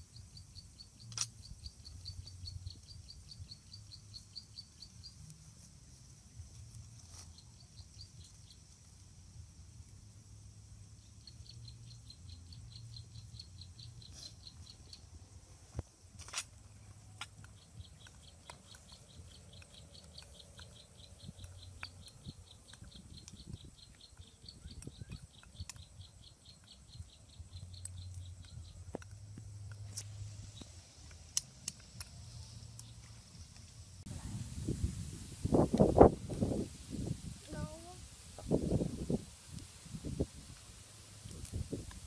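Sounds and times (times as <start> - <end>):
insect chirping: 0.0 - 42.0.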